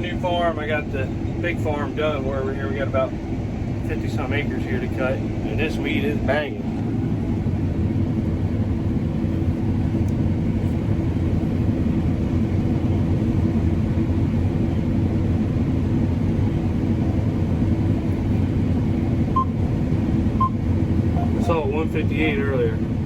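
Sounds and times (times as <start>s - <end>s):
combine harvester engine drone: 0.0s - 23.0s.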